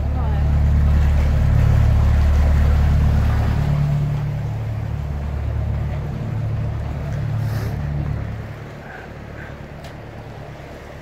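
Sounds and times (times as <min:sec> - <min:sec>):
boat engine low hum: 0:00.0 - 0:11.0.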